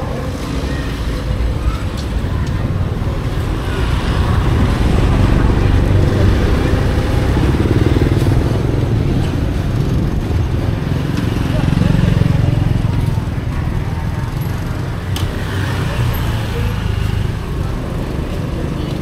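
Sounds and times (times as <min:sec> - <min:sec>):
motorbike engine running: 0:00.1 - 0:19.0.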